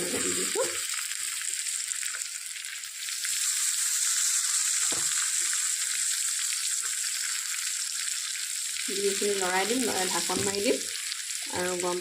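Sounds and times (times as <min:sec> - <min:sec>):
meat sizzling in fat: 0:00.0 - 0:12.0.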